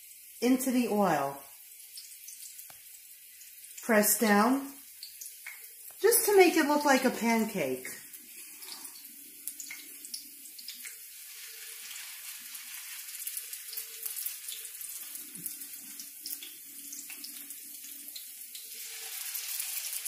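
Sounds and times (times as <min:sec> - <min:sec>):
batter frying in hot oil: 0:00.0 - 0:20.0.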